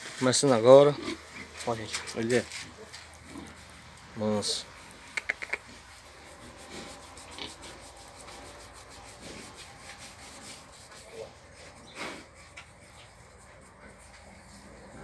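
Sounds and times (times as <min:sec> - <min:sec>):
hand rubbing bristly hide: 0:01.4 - 0:15.0.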